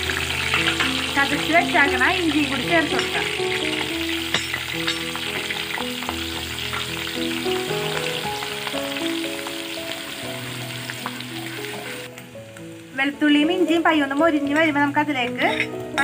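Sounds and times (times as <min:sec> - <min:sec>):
background melody of held notes: 0:00.0 - 0:16.0
garlic sizzling in hot oil: 0:00.0 - 0:16.0.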